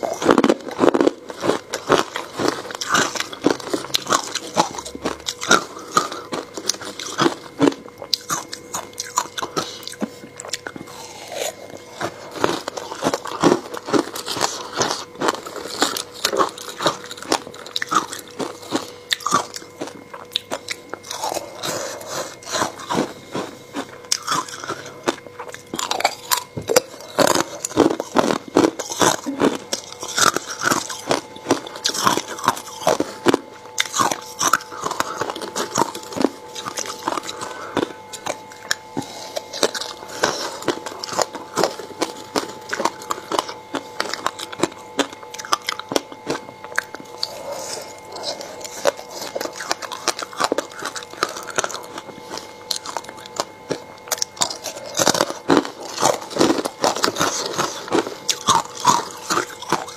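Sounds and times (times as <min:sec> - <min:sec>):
ice crunching between teeth: 0:00.0 - 0:59.9.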